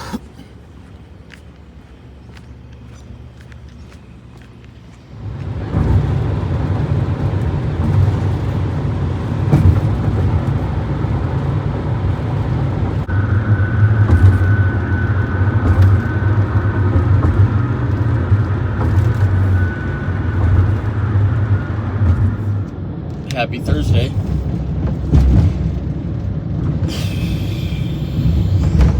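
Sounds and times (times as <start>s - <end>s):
motor vehicle engine rumbling: 0.0s - 28.9s.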